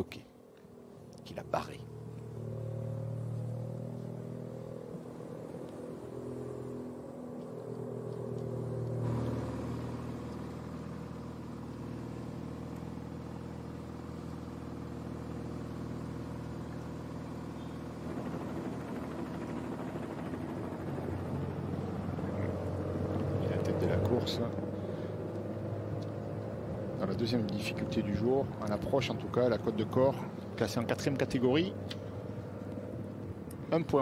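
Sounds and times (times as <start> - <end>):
motorcycle engine: 1.4 - 33.4.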